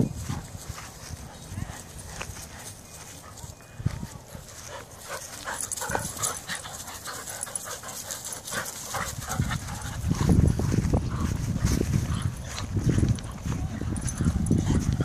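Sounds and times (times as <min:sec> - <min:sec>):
dogs panting: 0:00.0 - 0:15.0
dogs scuffling rumble: 0:00.0 - 0:15.0.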